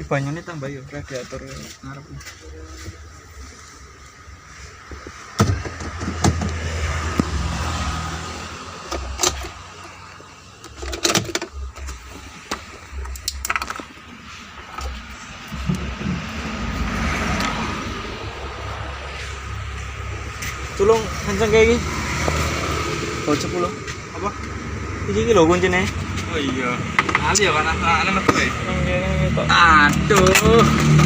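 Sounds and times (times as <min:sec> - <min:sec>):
low vehicle rumble: 0:00.0 - 0:31.0.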